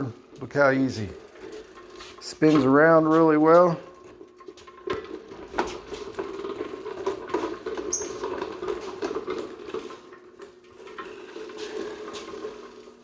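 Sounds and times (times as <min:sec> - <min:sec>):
reel lawn mower whirring and clicking: 0:00.4 - 0:13.0.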